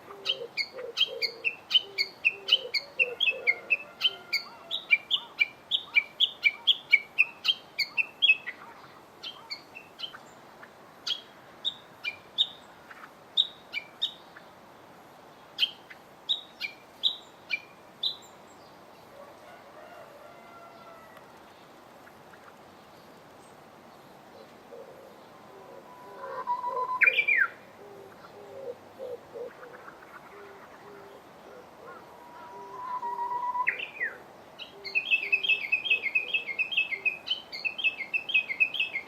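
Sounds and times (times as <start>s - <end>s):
songbird chirping: 0.0s - 39.0s.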